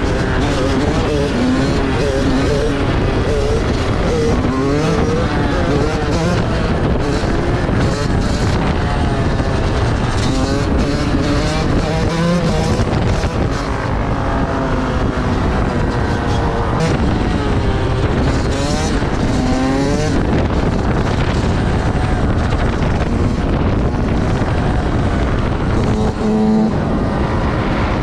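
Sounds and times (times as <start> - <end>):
vehicle engines revving: 0.0 - 28.0.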